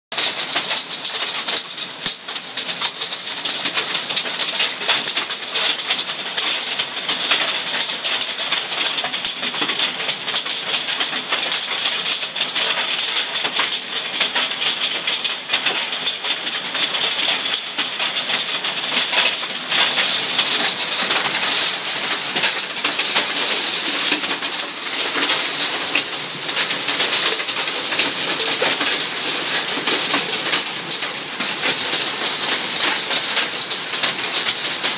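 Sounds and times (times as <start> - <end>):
hail and rain clattering on paving: 0.1 - 34.9.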